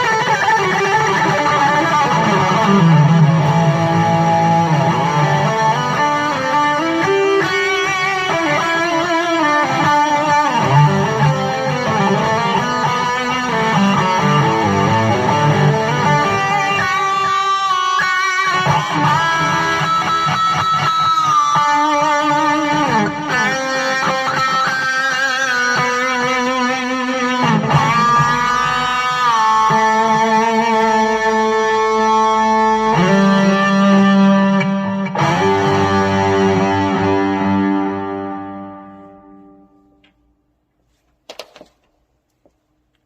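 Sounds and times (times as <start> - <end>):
electric guitar solo: 0.0 - 40.0.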